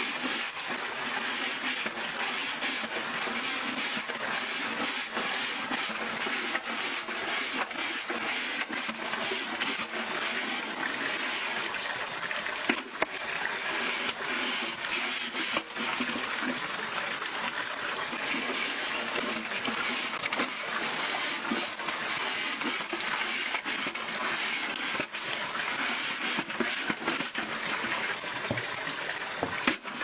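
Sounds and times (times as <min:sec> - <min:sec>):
brush scrubbing dishes: 0:00.0 - 0:11.7, 0:12.7 - 0:16.6, 0:18.0 - 0:27.9
water running and splashing: 0:00.0 - 0:30.0.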